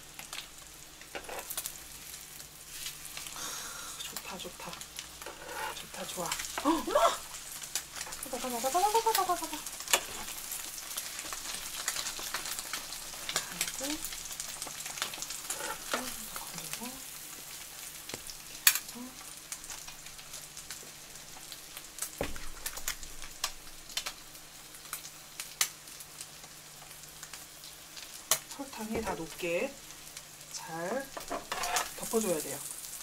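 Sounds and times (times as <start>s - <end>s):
toast sizzling in butter: 0.0s - 33.0s.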